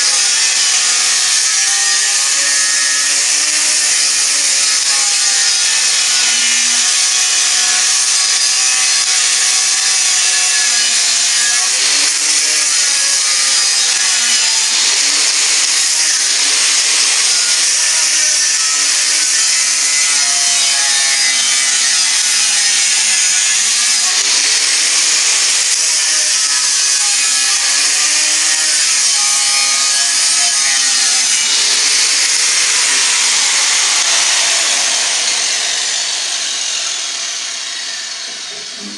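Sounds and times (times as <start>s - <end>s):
angle grinder cutting steel: 0.0s - 38.9s.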